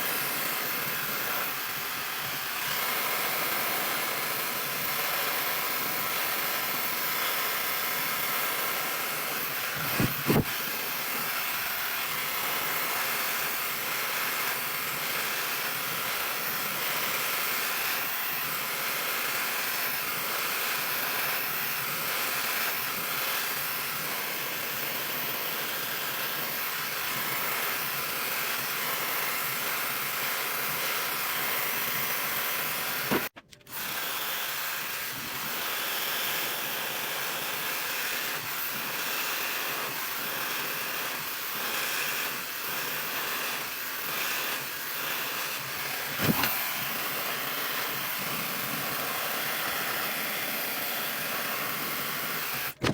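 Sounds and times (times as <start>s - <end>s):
hair dryer running: 0.0s - 52.9s.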